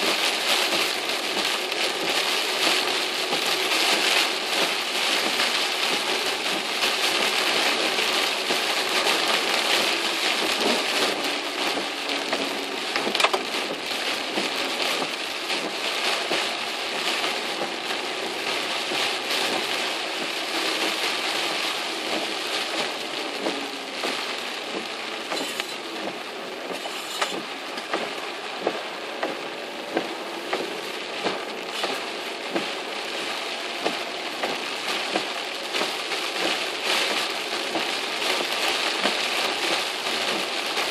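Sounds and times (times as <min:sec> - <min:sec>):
heavy rain on car: 0:00.0 - 0:40.9
tyres on wet road: 0:00.0 - 0:40.9.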